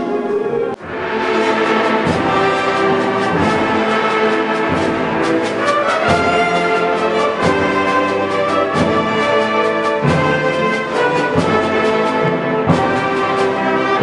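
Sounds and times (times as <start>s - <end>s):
brass wind band music: 0.0s - 14.0s
low drum strokes: 0.8s - 14.0s.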